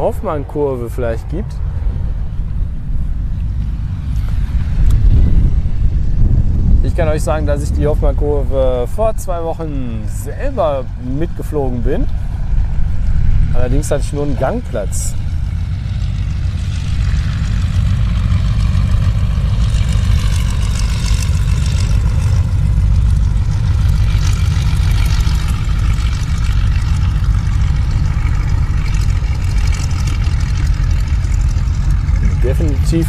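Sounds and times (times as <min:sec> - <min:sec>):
propeller plane engine running: 0:00.0 - 0:33.0.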